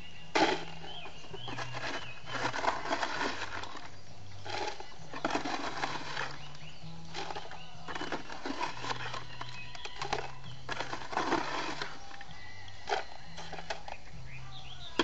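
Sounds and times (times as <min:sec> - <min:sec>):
birds singing whistled notes: 0:00.0 - 0:15.0
rustling and scraping of plants and pots: 0:00.0 - 0:15.0.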